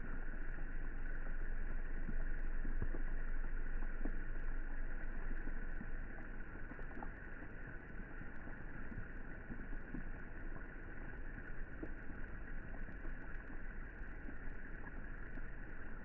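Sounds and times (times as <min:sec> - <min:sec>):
faint drop ticks: 0:00.0 - 0:16.0
light rain hissing on pool: 0:00.0 - 0:16.0
low rumble: 0:00.0 - 0:16.0.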